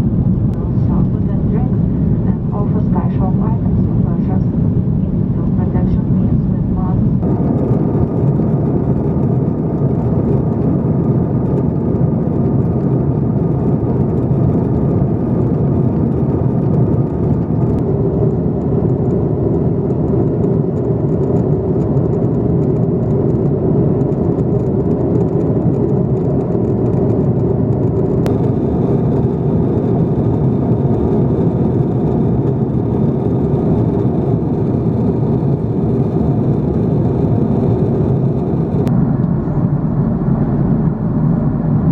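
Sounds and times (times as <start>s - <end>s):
airliner cabin engine noise: 0.0s - 41.9s.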